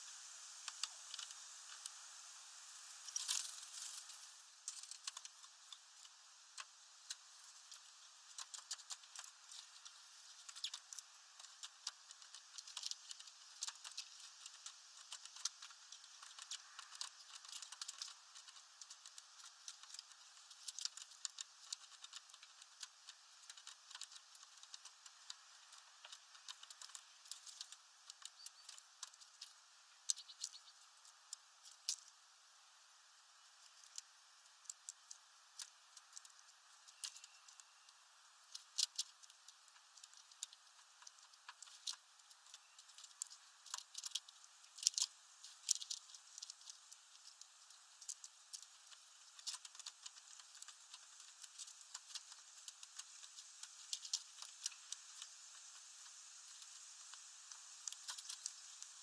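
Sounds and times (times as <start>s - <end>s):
bird pecking at seeds: 0.6s - 59.0s.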